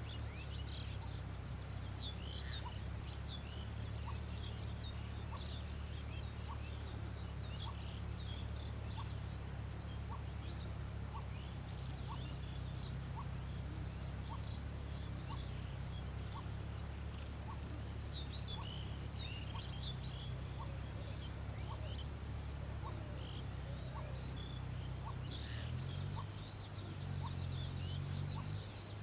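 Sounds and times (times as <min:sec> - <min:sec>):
birds chirping: 0:00.4 - 0:29.0.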